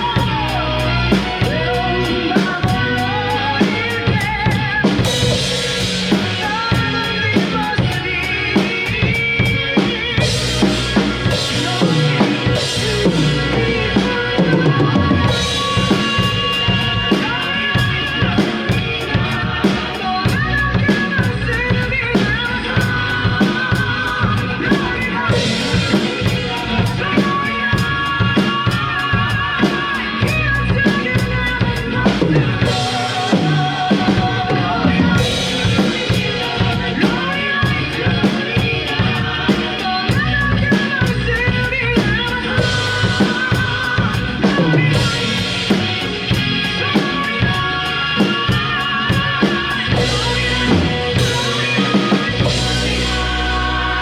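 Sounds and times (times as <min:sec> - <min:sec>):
drum kit playing: 0:00.0 - 0:54.0
pop song with sung vocal: 0:00.0 - 0:54.0.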